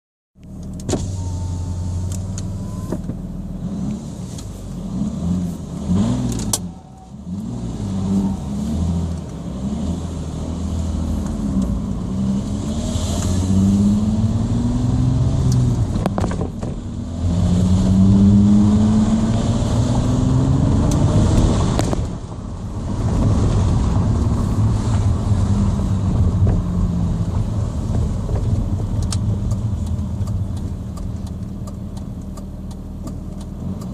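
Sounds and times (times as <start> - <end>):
diesel engine revving: 1.0 - 33.9.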